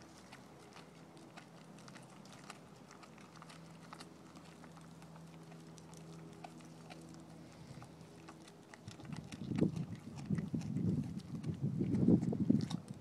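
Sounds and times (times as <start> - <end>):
dog chewing wetly: 0.0 - 13.0
low hum: 0.0 - 13.0.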